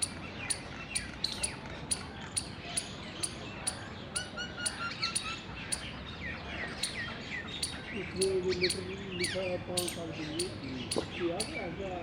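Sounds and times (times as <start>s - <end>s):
squirrel high-pitched chirps: 0.0s - 6.0s, 6.8s - 11.7s.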